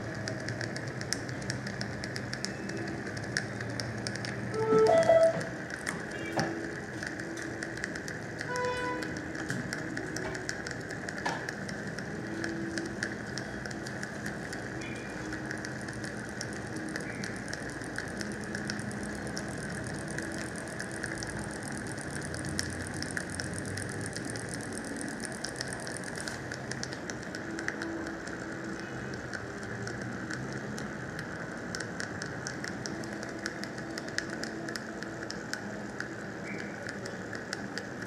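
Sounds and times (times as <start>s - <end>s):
ratchet clicking: 0.0s - 38.0s.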